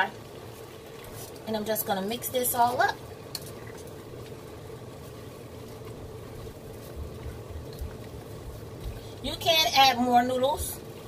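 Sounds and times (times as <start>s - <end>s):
faint steady hum: 0.0s - 11.0s
stir-fry sizzling in a skillet: 0.0s - 11.0s.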